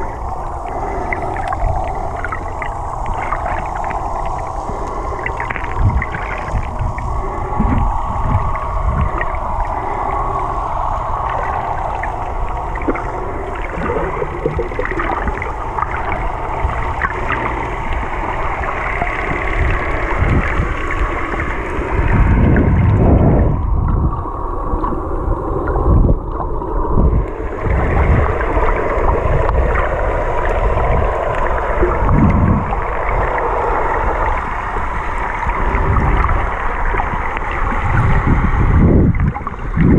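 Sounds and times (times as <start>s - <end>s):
underwater water rushing: 0.0s - 39.9s.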